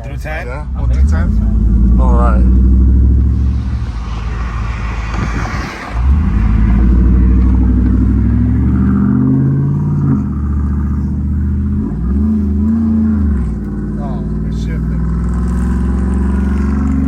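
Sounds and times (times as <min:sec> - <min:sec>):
truck engine pulling away: 0:00.6 - 0:17.0.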